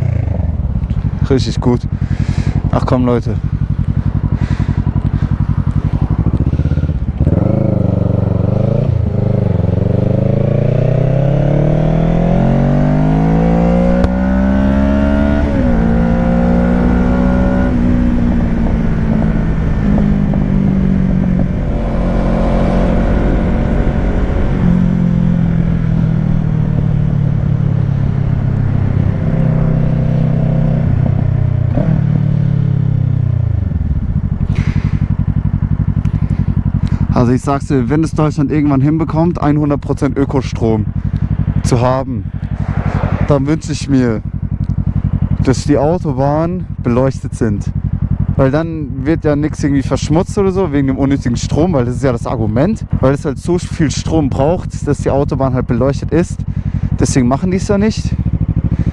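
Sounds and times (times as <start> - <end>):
motorcycle engine accelerating hard: 0.0 - 58.9.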